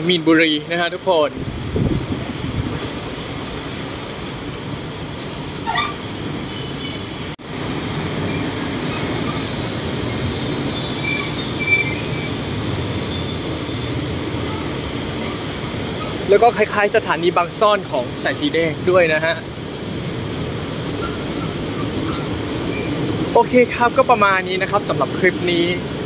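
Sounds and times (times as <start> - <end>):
road and rail traffic rumble: 0.0 - 26.0.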